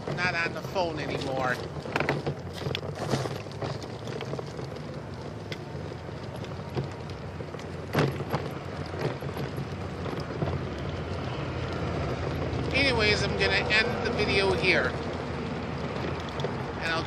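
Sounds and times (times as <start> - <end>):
bicycle rolling on trail: 0.0 - 17.0
sharp knocks and rattles: 0.0 - 17.0.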